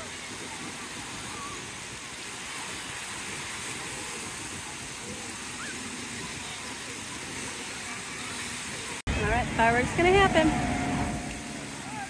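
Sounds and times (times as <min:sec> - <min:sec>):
distant crowd voices: 0:00.0 - 0:12.0
ocean surf: 0:00.0 - 0:12.0.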